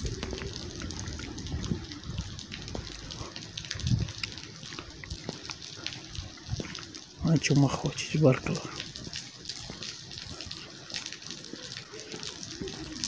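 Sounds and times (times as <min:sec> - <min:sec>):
raindrops ticking near microphone: 0:00.0 - 0:13.0
steady rain on wet street: 0:00.0 - 0:13.0.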